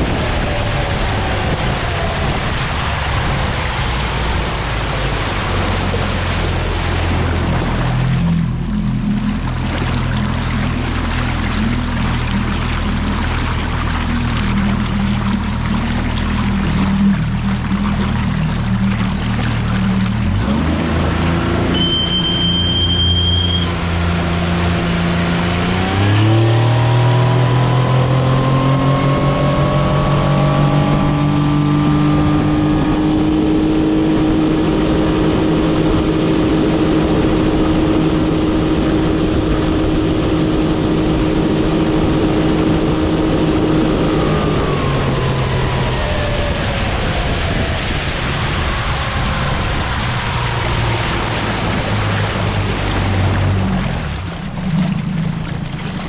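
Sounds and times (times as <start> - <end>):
outboard motor running: 0.0 - 56.0
rush of wind and water: 0.0 - 56.0.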